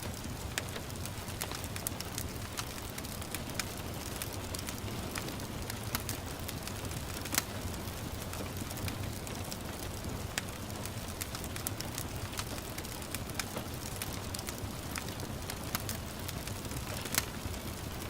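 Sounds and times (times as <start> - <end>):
steady hiss of rain: 0.0 - 18.0
wood fire crackling and popping: 0.0 - 18.0.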